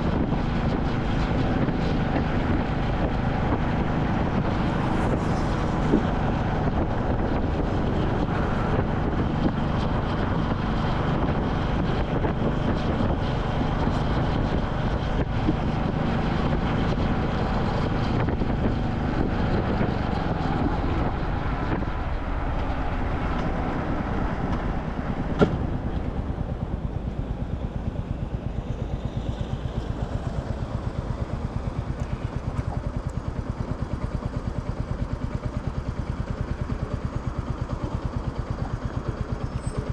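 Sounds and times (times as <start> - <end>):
wind rushing over microphone: 0.0 - 34.1
motorcycle engine running: 0.0 - 39.9.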